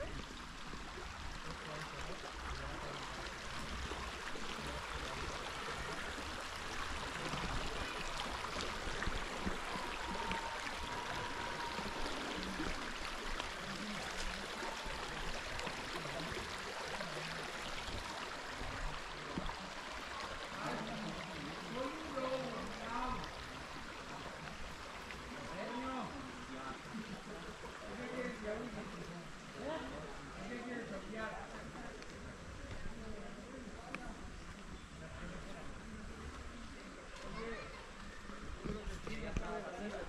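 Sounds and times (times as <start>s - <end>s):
stream of running water: 0.0s - 40.0s.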